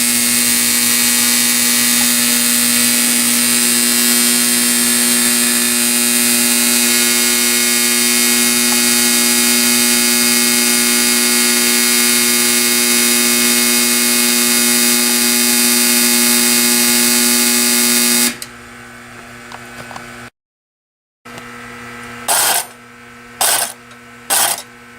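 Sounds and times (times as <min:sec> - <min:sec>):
steady electric buzz: 0:00.0 - 0:18.4, 0:22.3 - 0:22.8, 0:23.4 - 0:24.7.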